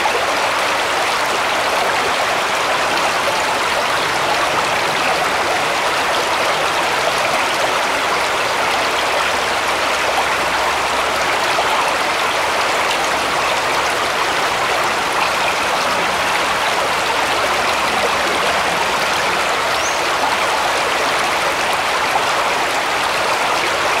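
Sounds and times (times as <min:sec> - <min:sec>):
brook babbling over stones: 0:00.0 - 0:24.0.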